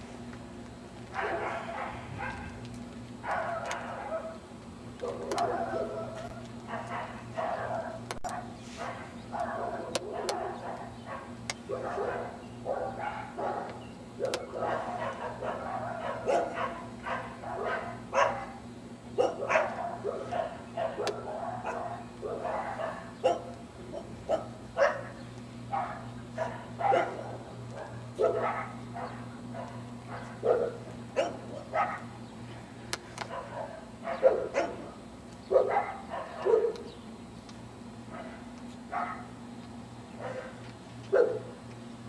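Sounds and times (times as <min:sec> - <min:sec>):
steady low hum: 0:00.0 - 0:42.0
dog barking: 0:01.2 - 0:02.6, 0:03.2 - 0:04.4, 0:05.0 - 0:18.6, 0:19.2 - 0:32.1, 0:33.3 - 0:34.9, 0:35.5 - 0:36.9, 0:38.1 - 0:39.3, 0:40.2 - 0:41.6.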